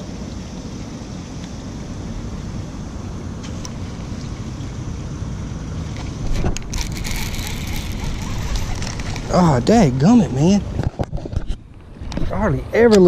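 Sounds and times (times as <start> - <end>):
low boat rumble: 0.0 - 12.8.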